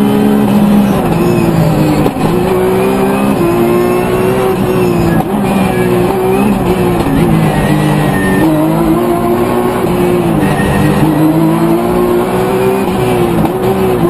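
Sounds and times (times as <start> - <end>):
rally car engine at high revs: 0.0 - 14.0.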